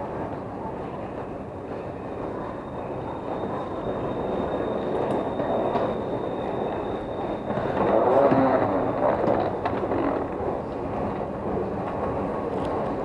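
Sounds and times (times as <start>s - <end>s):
train rumbling at platform: 0.0s - 13.0s.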